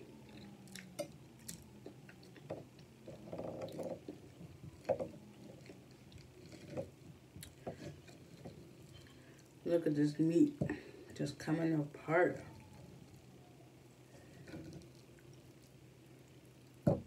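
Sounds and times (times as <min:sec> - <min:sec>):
chewing and wet mouth sounds: 0:00.0 - 0:09.7, 0:12.3 - 0:16.8.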